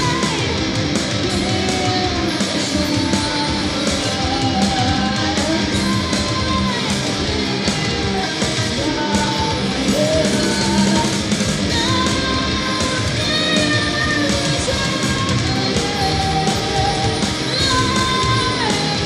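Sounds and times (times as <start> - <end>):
heavy metal band playing: 0.0 - 19.0.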